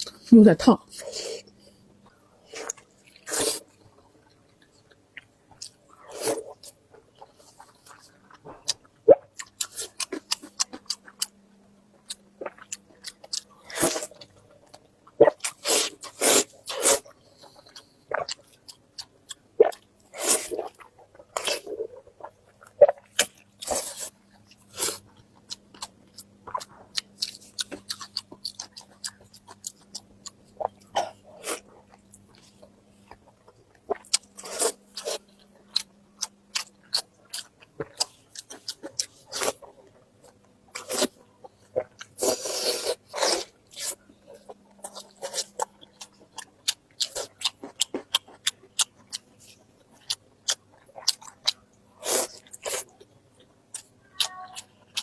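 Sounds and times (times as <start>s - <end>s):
person chewing food: 1.0s - 55.0s.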